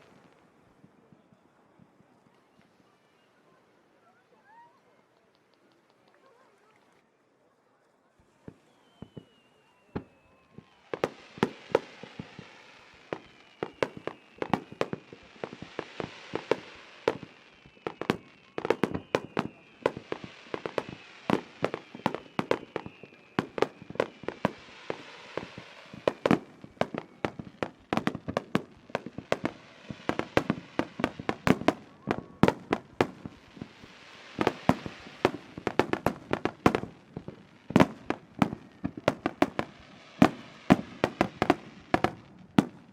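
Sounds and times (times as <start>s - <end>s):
firework crackling: 0.0s - 0.7s, 9.0s - 42.9s
faint falling whistles: 8.2s - 42.9s.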